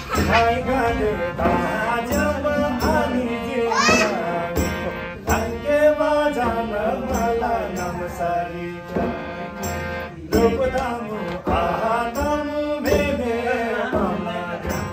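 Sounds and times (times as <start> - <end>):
harmonium chords: 0.0 - 14.9
voices singing: 0.0 - 14.9.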